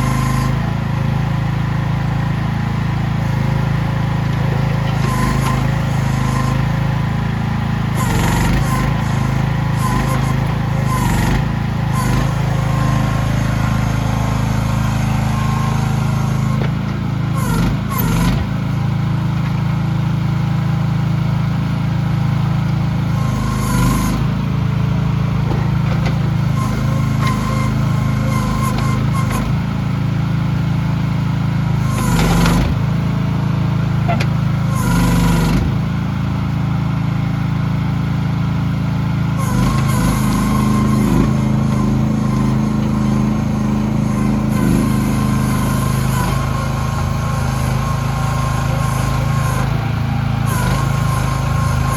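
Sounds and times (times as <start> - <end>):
excavator engine running: 0.0 - 51.9.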